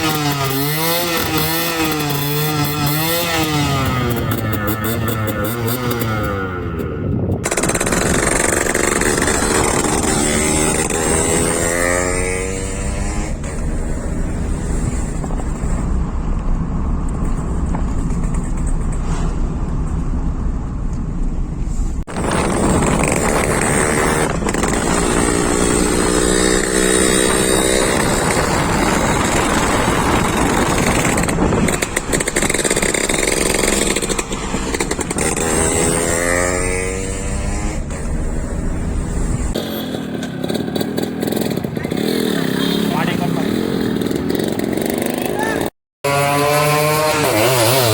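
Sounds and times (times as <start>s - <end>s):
two-stroke motorcycle engine revving: 0.0s - 16.2s, 22.0s - 47.9s.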